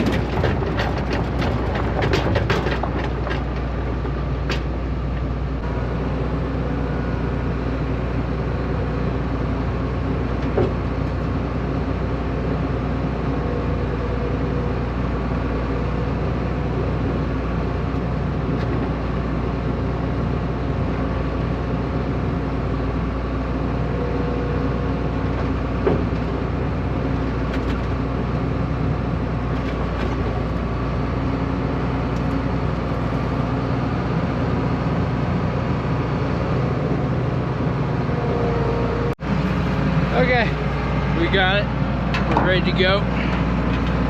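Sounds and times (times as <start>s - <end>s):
farm machinery engine running: 0.0s - 44.0s.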